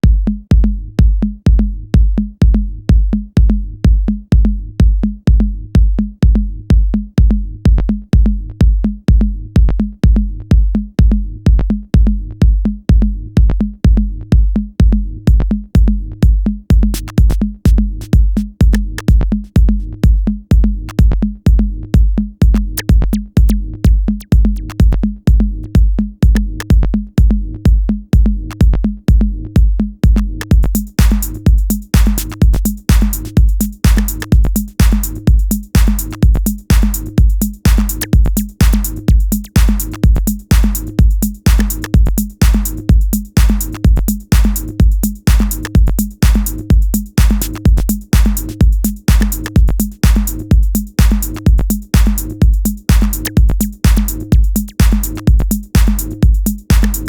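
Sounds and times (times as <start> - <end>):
electronic music with drum machine: 0.0 - 57.0.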